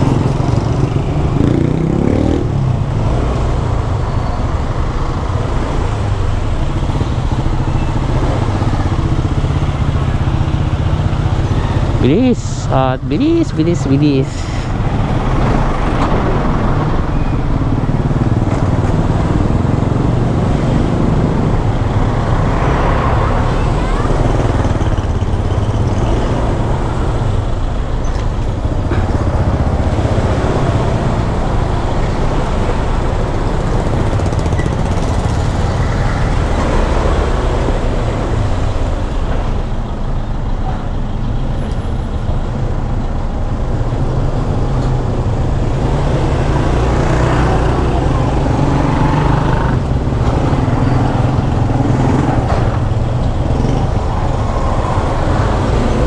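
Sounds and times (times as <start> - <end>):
road vehicles: 0.0 - 56.0
wind and scooter engine rumble: 0.0 - 56.0.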